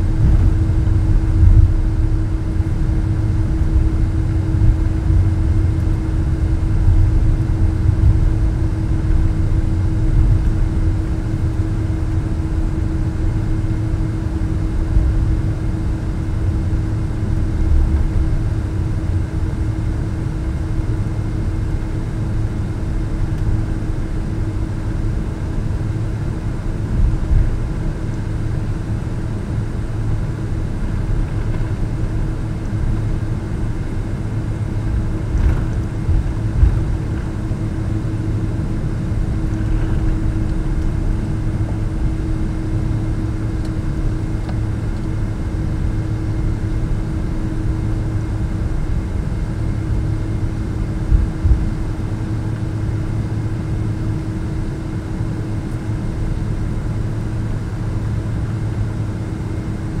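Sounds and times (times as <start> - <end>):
airliner cabin rumble: 0.0 - 60.0.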